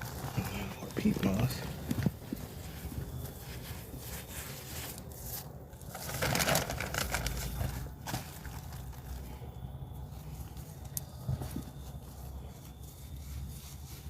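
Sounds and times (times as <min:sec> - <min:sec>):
dry peat moss rustling: 0:00.0 - 0:14.0.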